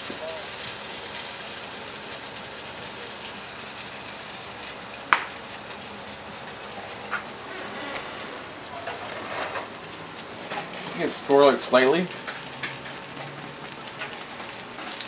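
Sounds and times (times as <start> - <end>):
foie gras sizzling in pan: 0.0 - 15.0.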